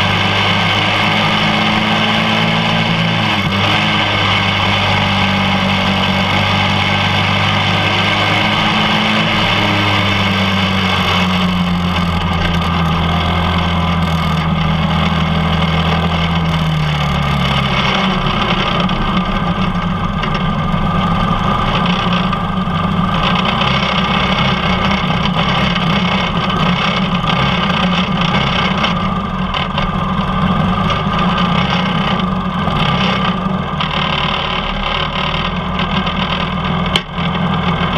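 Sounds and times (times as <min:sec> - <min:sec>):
small race car engine running: 0:00.0 - 0:37.9.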